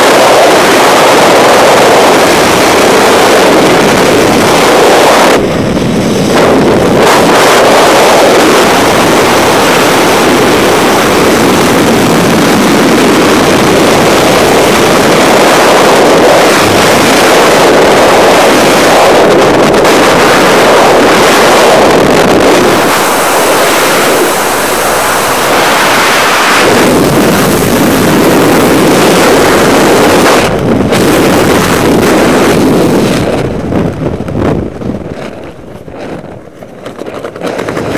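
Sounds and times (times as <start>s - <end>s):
wind rushing on microphone: 0.0s - 37.9s.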